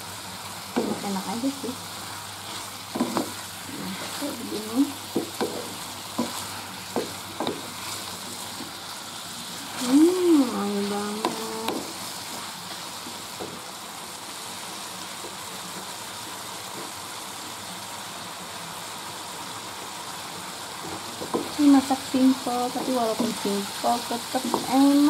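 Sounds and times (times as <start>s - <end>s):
bitter gourd sizzling in frying pan: 0.0s - 25.0s.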